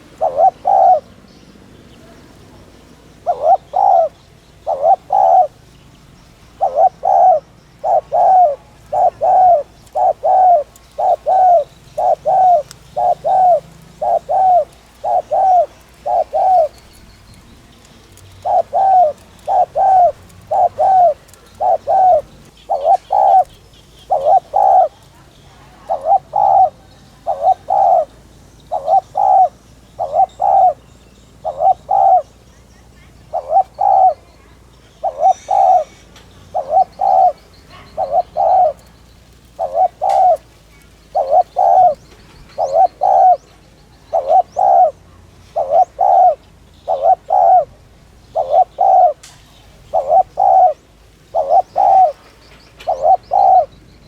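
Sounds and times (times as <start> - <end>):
dove cooing: 0.0 - 53.8.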